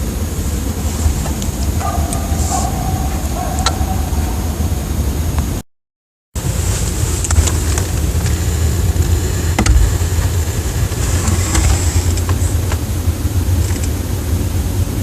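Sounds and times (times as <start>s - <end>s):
low engine-like rumble: 0.0s - 5.6s, 6.4s - 15.0s.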